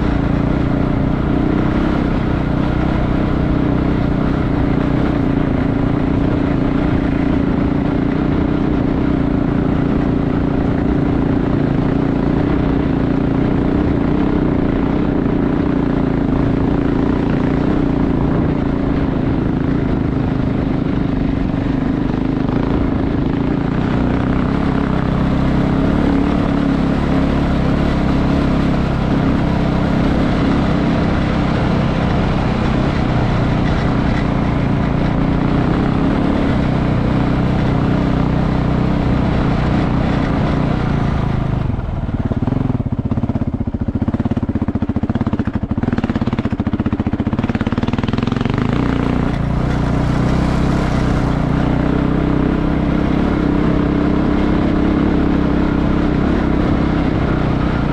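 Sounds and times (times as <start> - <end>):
motorcycle engine droning: 0.0 - 57.9.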